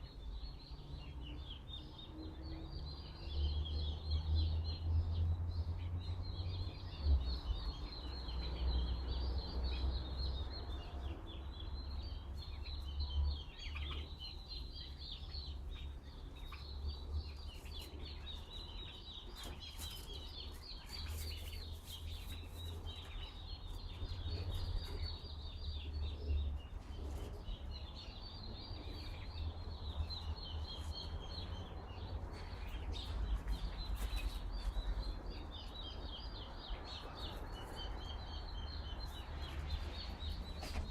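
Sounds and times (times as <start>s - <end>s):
small birds twittering: 0.0s - 40.9s.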